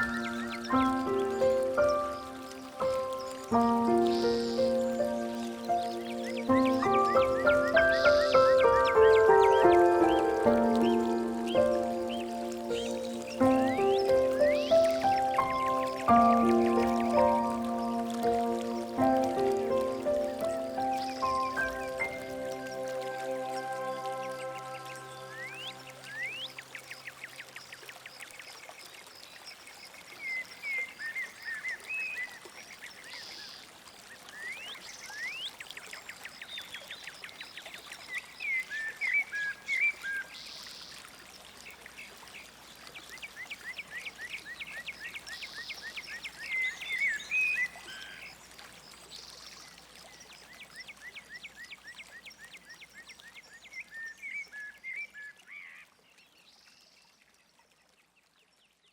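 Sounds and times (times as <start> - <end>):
songbirds singing and trilling: 0.0 - 58.8.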